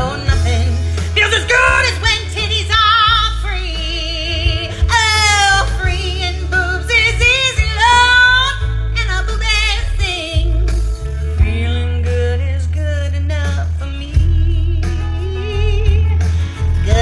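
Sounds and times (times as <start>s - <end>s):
heavy bass line: 0.0s - 17.0s
person singing: 0.0s - 17.0s.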